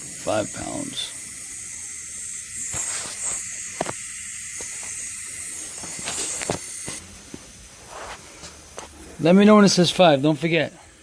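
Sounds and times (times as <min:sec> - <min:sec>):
refrigerant hissing through hose: 0:00.0 - 0:11.0.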